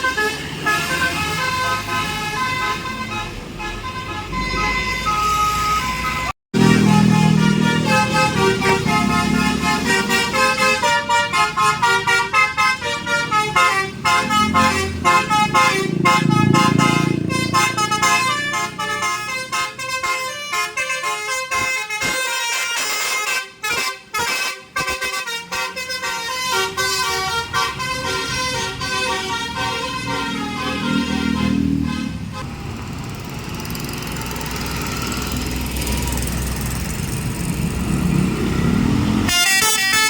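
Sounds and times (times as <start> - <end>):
bus melody horn playing tune: 0.0 - 32.6, 39.2 - 40.0
bus engine rumble: 0.0 - 40.0.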